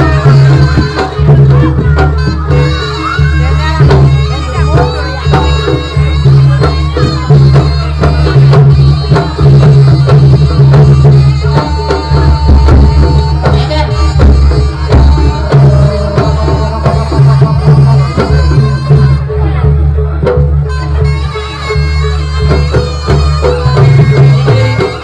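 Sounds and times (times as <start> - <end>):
sustained low bass: 0.0 - 21.8
hand drums beating fast: 0.0 - 25.0.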